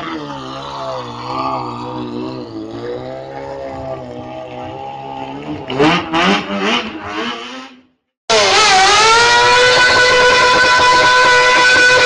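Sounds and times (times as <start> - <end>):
loud high-pitched drone: 0.0 - 6.8, 8.3 - 12.0
motorcycle engine revving: 0.0 - 12.0.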